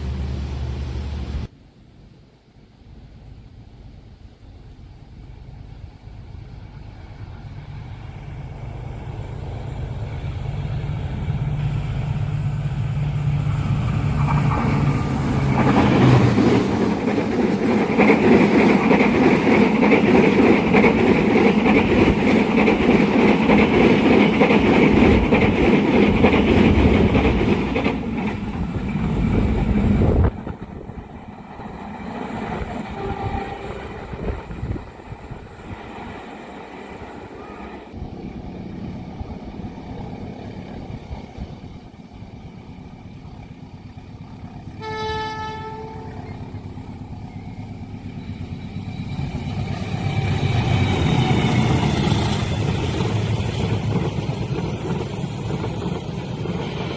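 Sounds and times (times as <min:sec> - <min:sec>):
diesel locomotive drone: 0:00.0 - 0:56.9
train wheels rolling: 0:03.2 - 0:56.9.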